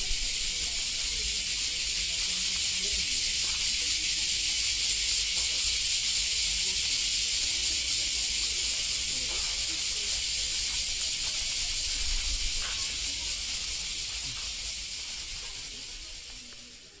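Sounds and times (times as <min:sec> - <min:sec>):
steady high-pitched hiss: 0:00.0 - 0:17.0.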